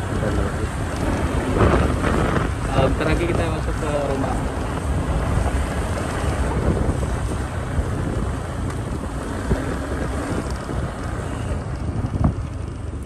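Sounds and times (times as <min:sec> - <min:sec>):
motorcycle engine: 0:00.0 - 0:13.0
wind buffeting microphone: 0:00.0 - 0:13.0.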